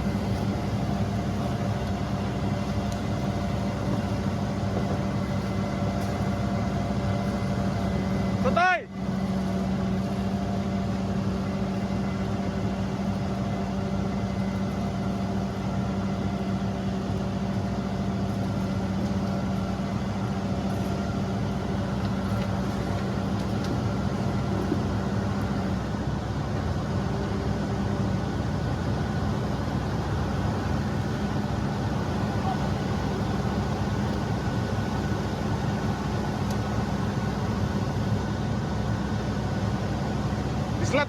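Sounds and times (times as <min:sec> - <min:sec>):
heavy diesel engine droning: 0:00.0 - 0:41.0.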